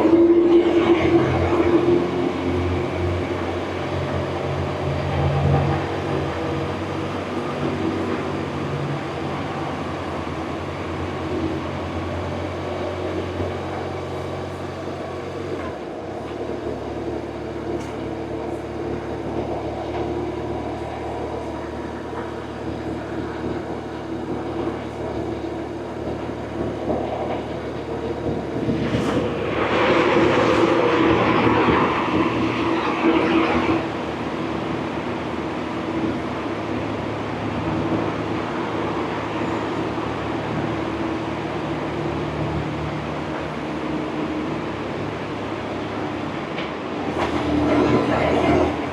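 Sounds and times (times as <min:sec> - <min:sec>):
road and wind noise: 0:00.0 - 0:48.9.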